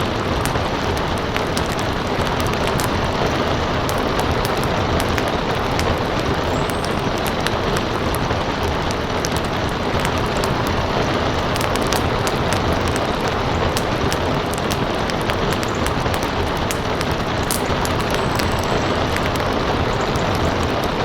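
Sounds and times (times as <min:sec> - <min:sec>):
rain hiss: 0:00.0 - 0:21.0
wood fire crackling: 0:00.0 - 0:21.0.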